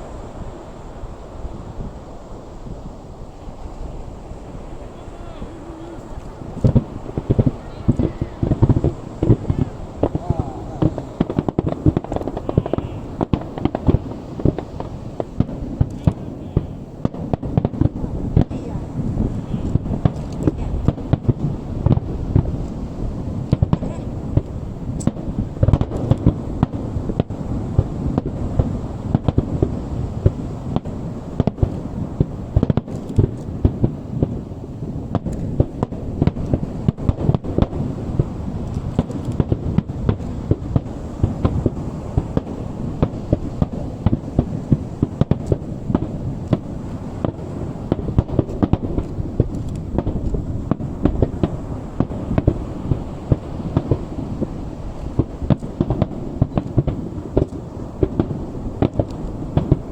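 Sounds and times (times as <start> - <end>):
fireworks bangs and crackles: 0.0 - 59.9
rumbling fireworks booms: 0.0 - 59.9.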